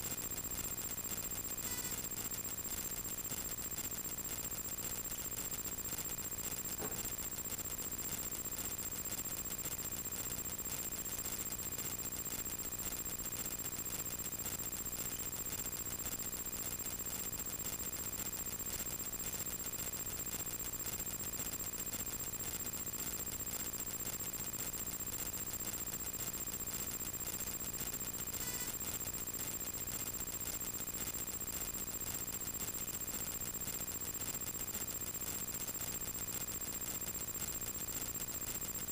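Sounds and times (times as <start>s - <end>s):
steady high whine: 0.0s - 38.9s.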